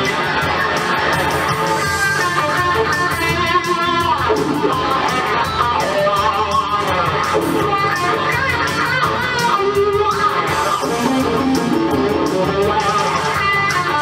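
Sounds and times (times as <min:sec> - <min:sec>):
backing track with drum beat: 0:00.0 - 0:14.0
electric guitar rock lead: 0:00.0 - 0:14.0.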